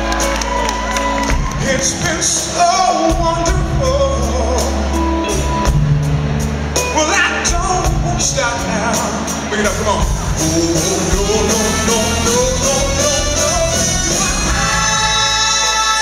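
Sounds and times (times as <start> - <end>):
drums: 0.0 - 16.0
soul band playing a ballad: 0.0 - 16.0
man singing into a microphone: 1.5 - 5.4, 7.0 - 16.0.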